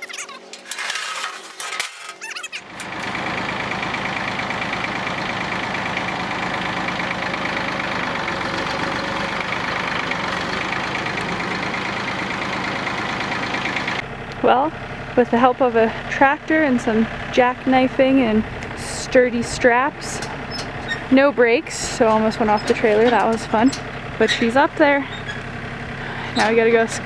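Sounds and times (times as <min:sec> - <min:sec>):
engine running steadily: 0:02.6 - 0:27.0.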